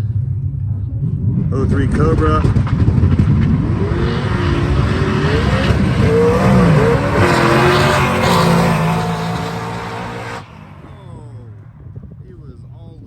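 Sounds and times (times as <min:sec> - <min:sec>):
drag car engines revving: 0:00.0 - 0:12.1.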